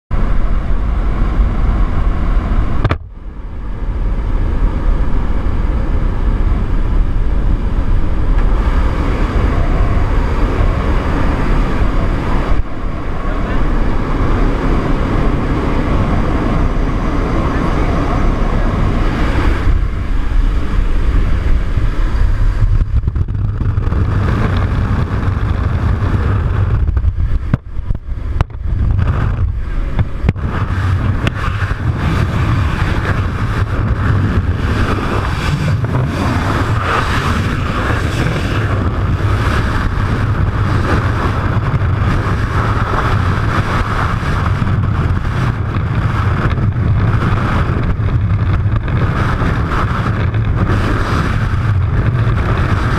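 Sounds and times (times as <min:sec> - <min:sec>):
plane engine and slipstream: 0:00.1 - 0:52.9
wind blasting microphone: 0:00.1 - 0:52.9.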